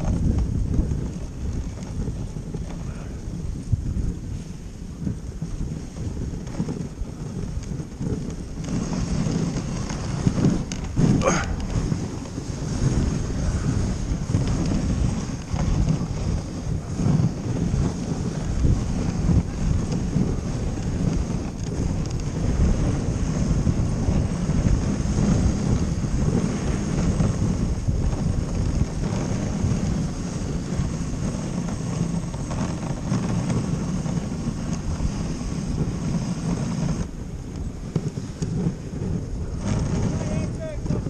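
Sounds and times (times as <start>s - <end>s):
sled gliding over snow: 0.0s - 41.0s
wind buffeting microphone: 0.0s - 41.0s.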